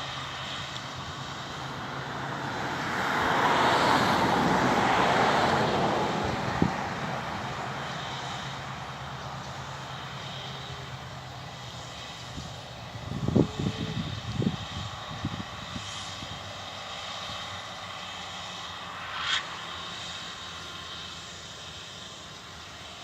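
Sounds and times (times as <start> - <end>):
combine harvester passing: 0.0 - 23.0.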